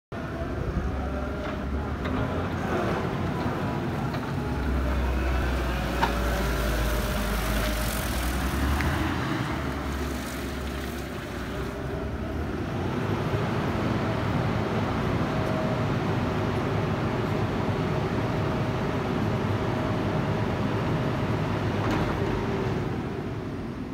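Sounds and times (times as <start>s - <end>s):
forklift engine running: 0.2s - 23.9s.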